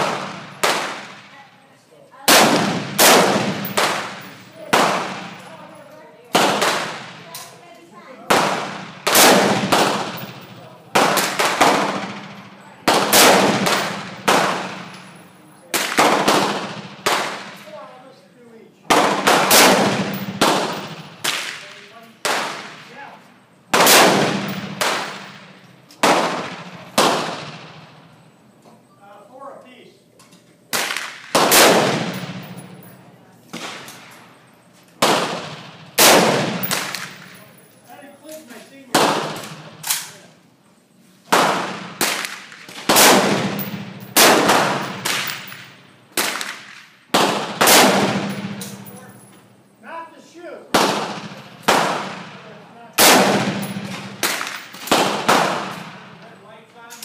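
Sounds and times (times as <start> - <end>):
rifle shots echoing: 0.0 - 1.6, 2.2 - 7.5, 8.2 - 17.9, 18.9 - 23.1, 23.7 - 28.3, 30.7 - 37.7, 38.9 - 40.4, 41.3 - 49.6, 50.7 - 57.0.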